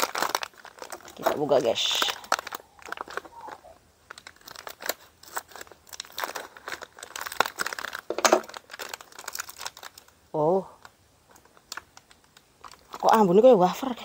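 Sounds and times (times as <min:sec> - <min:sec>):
foil pouch crinkling: 0:00.0 - 0:10.2, 0:10.8 - 0:13.6.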